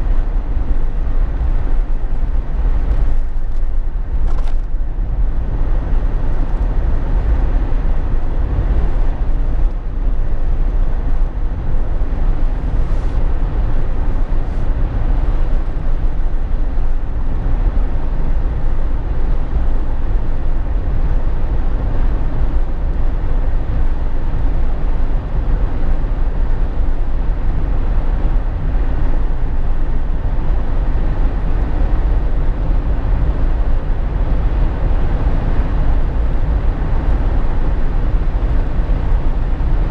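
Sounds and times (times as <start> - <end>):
car cabin rumble: 0.0 - 39.9.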